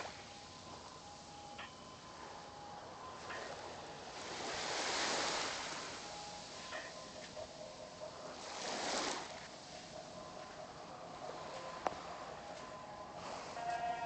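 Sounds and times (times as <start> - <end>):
small waves washing in: 0.0 - 14.0.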